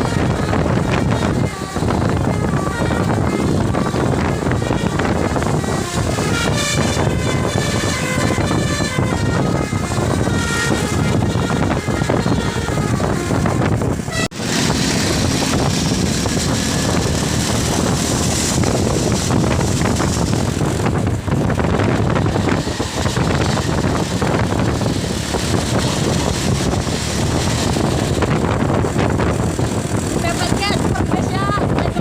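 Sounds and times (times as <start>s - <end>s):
buses and cars passing: 0.0s - 32.0s
wind buffeting microphone: 0.0s - 32.0s.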